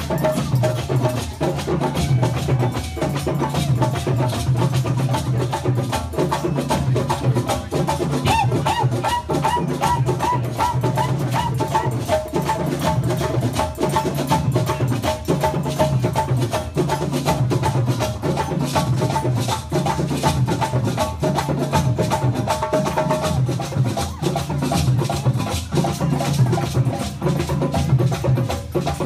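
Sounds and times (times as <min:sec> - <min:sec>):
djembe drum ensemble: 0:00.0 - 0:29.0.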